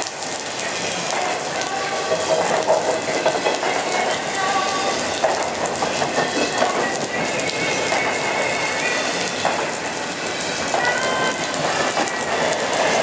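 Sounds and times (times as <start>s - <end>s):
rain falling: 0.0s - 13.0s
train cars rumbling and rattling: 0.0s - 13.0s.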